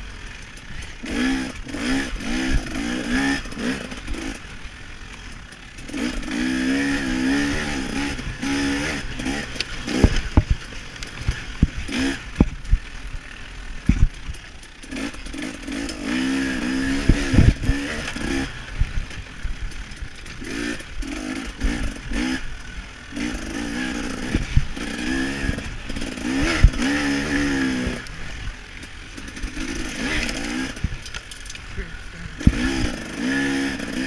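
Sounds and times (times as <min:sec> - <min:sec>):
bike thudding over bumps: 0:00.0 - 0:34.0
dirt bike engine revving: 0:00.0 - 0:34.0.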